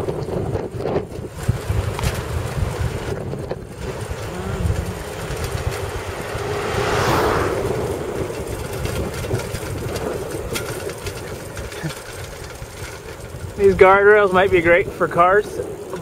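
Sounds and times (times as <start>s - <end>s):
wind rushing over microphone: 0.0s - 16.0s
van passing: 1.2s - 16.0s.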